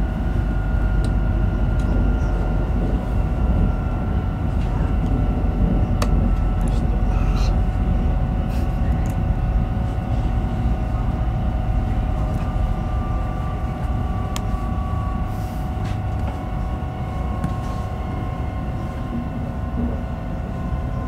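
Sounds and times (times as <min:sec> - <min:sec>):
constant whine: 0:00.0 - 0:21.0
train wheels rumbling on track: 0:00.0 - 0:21.0.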